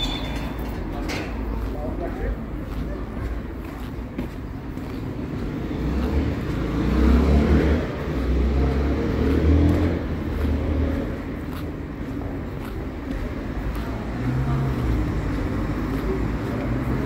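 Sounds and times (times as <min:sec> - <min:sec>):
street ambience with low rumble: 0:00.0 - 0:17.0.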